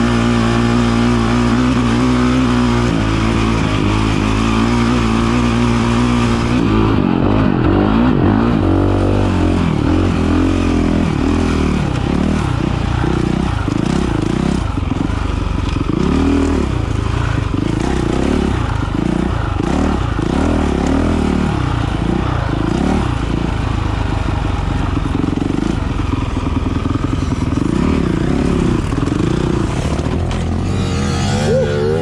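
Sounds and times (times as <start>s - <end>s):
dirt bike engine revving: 0.0s - 32.0s
higher-pitched engine whine: 0.0s - 32.0s.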